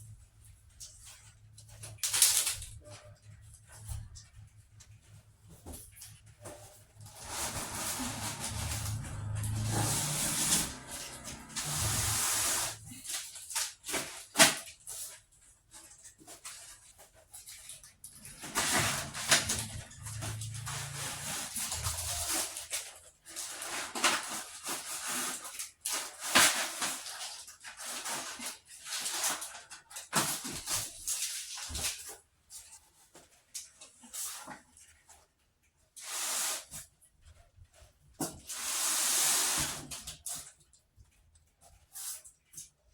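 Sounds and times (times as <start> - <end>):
packaging rustling and scraping: 0.0 - 42.9.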